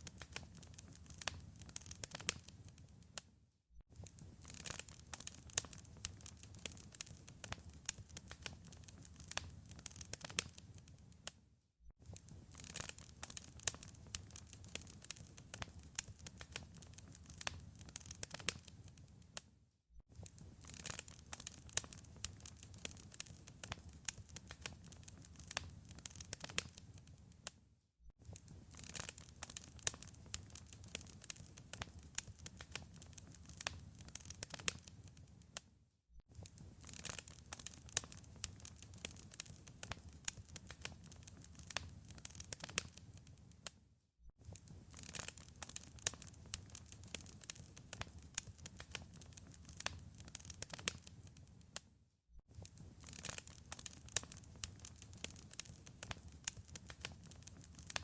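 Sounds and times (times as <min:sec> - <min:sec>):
wood fire crackling and popping: 0:00.0 - 0:03.0, 0:04.0 - 0:11.4, 0:12.0 - 0:19.4, 0:20.1 - 0:27.5, 0:28.2 - 0:35.6, 0:36.3 - 0:43.5, 0:44.4 - 0:51.8, 0:52.5 - 0:58.0.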